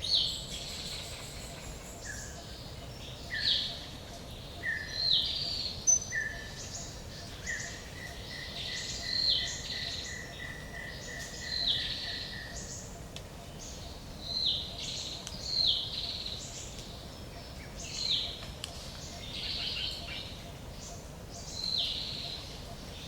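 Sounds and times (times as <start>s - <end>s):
birds calling: 0.0s - 23.0s
low background hiss: 0.0s - 23.0s.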